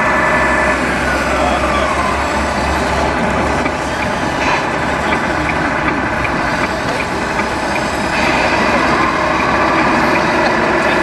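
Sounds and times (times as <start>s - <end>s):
model truck engine sound: 0.0s - 11.0s.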